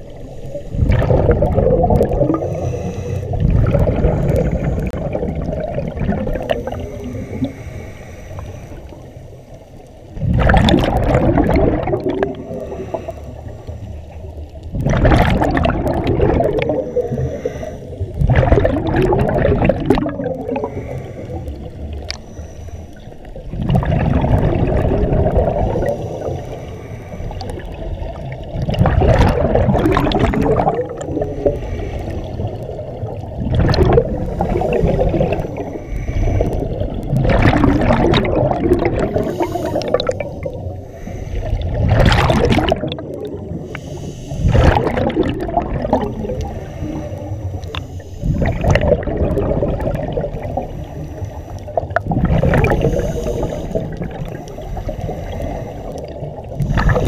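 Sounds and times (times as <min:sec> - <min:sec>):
gurgle of bubbles: 0:00.0 - 0:07.6, 0:10.1 - 0:13.1, 0:14.2 - 0:22.2, 0:23.3 - 0:51.0, 0:51.6 - 0:57.0
diver breathing through regulator: 0:00.2 - 0:10.0, 0:11.1 - 0:14.4, 0:15.2 - 0:23.9, 0:24.6 - 0:27.9, 0:28.7 - 0:57.0.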